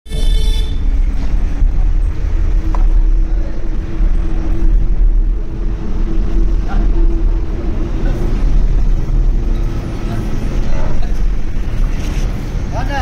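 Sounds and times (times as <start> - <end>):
engine-like hum: 0.1 - 13.0
road traffic rumble: 0.1 - 13.0.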